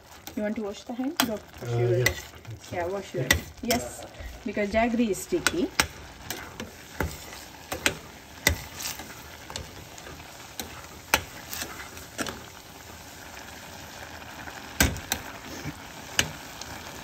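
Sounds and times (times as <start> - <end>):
spoon stirring beans in pot: 0.0 - 17.0
steady sizzle: 0.0 - 17.0.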